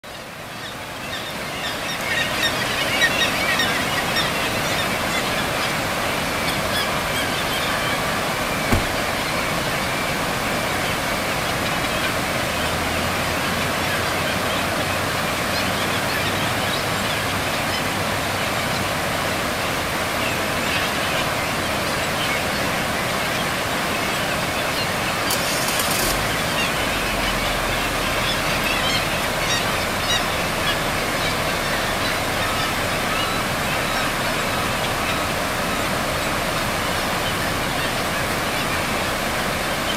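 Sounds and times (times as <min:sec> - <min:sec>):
flowing water rushing: 0:00.1 - 0:39.9
gulls calling: 0:00.4 - 0:39.9.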